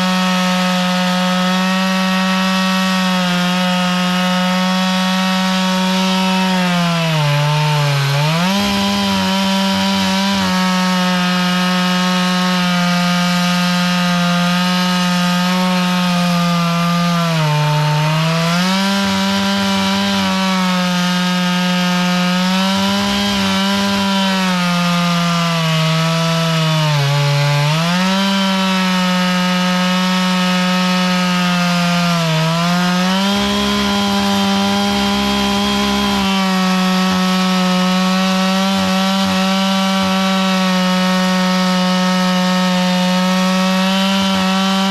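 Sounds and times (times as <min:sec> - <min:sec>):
chainsaw cutting through log: 0:00.0 - 0:44.9.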